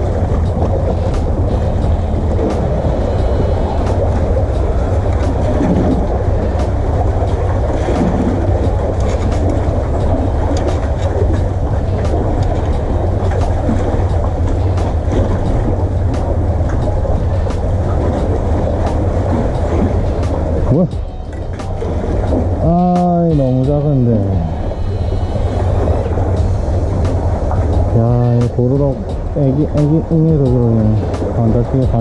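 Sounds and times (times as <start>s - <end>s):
sea water washing on concrete: 0.0s - 32.0s
wind buffeting microphone: 0.0s - 32.0s.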